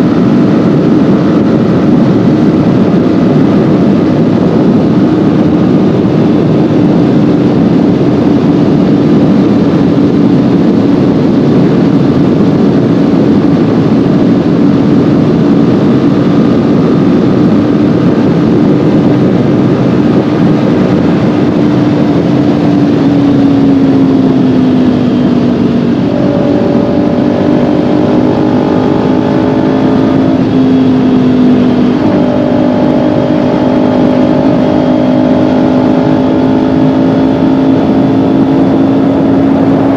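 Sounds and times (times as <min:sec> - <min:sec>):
heavy wind rush: 0:00.0 - 0:39.9
motorcycle engine running: 0:00.0 - 0:39.9.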